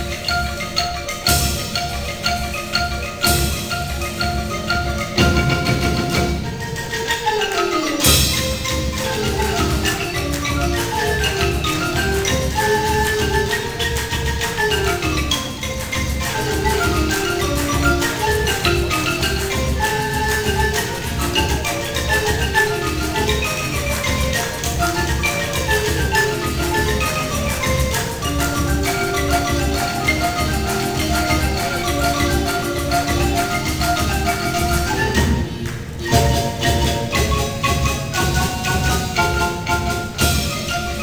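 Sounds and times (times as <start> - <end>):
drum kit beat: 0.0 - 41.0
marimbas playing: 0.0 - 41.0.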